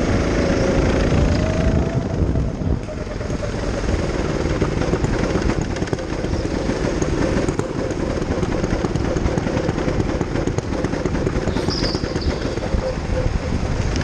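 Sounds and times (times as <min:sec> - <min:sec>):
go-kart engine rumbling: 0:00.0 - 0:14.0.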